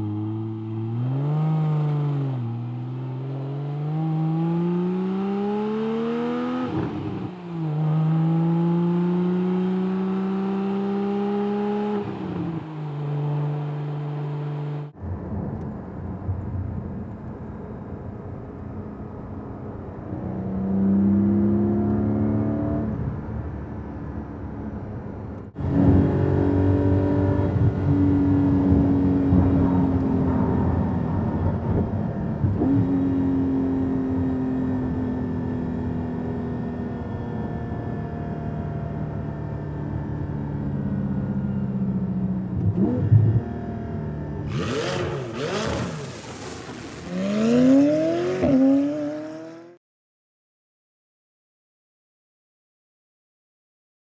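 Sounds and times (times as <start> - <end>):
sports car engine accelerating: 0.0 - 15.0, 20.0 - 49.8
road noise inside car: 0.0 - 49.7.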